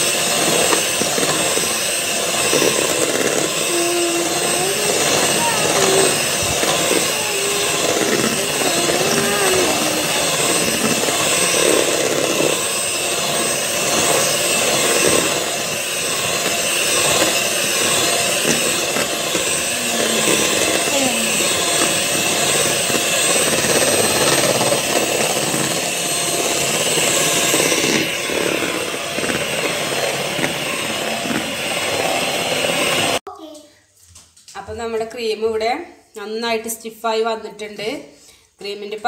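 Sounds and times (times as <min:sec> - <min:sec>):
electric beater whipping cream: 0:00.0 - 0:33.2.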